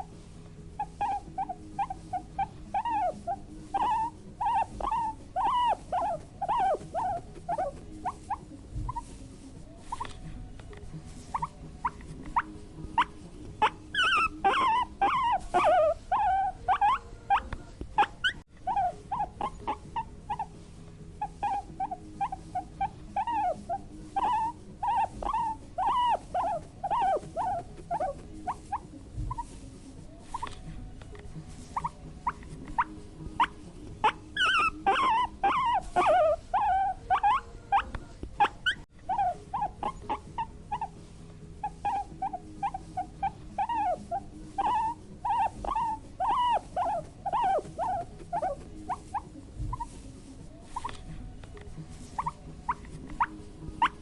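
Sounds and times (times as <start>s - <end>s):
guinea pig squealing: 0.0s - 9.2s, 9.8s - 10.3s, 11.1s - 50.0s, 50.6s - 51.2s, 51.9s - 54.0s
guinea pig squeaking: 0.0s - 54.0s.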